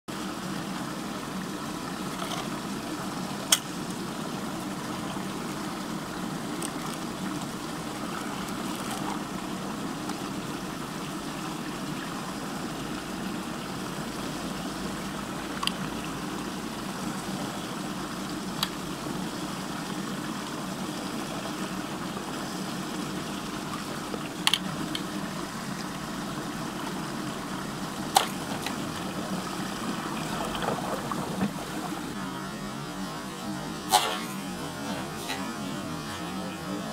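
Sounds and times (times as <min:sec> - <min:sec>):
steady hum: 0:00.1 - 0:36.9
water churning in whirlpool: 0:00.1 - 0:36.9.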